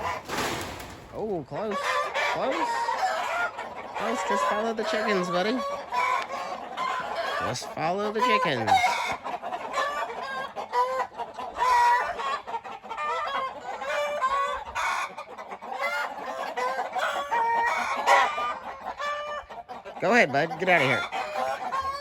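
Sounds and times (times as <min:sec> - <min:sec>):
chickens clucking and cackling: 0:00.0 - 0:22.0.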